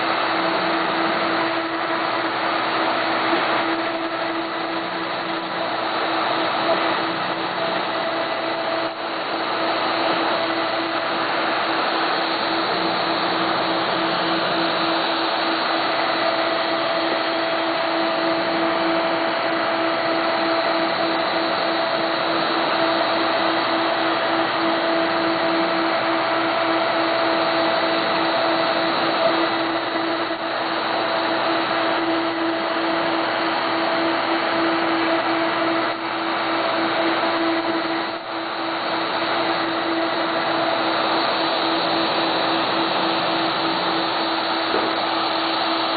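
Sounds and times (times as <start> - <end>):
constant rushing noise: 0.0 - 45.9
machine mechanical whine: 0.0 - 45.9.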